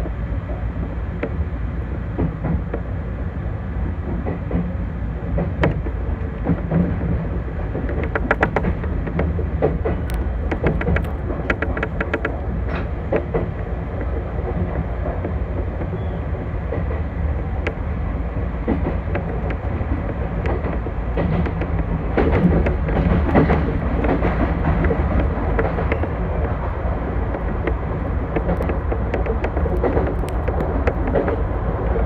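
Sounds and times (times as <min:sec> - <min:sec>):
clicks over rail joints: 0:00.0 - 0:03.0, 0:03.8 - 0:32.0
train wheels rumbling on rails: 0:00.0 - 0:32.0.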